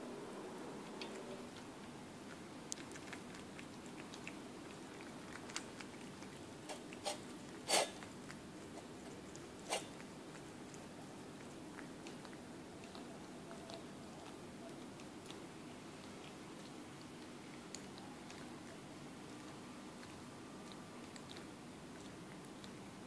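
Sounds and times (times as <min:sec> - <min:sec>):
cat chewing and licking: 0:00.8 - 0:23.0
cat crunching kibble: 0:00.9 - 0:23.0.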